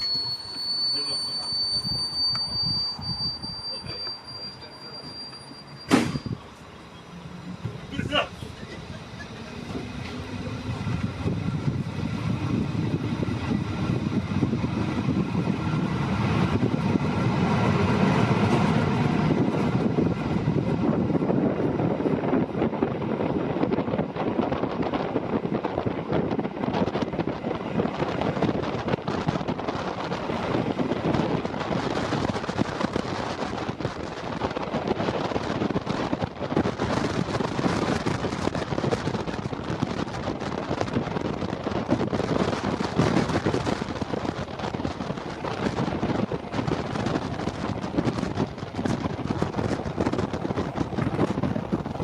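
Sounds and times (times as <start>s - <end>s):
passenger train rumbling on track: 0.0s - 52.0s
wind buffeting microphone: 1.5s - 4.4s, 6.1s - 52.0s.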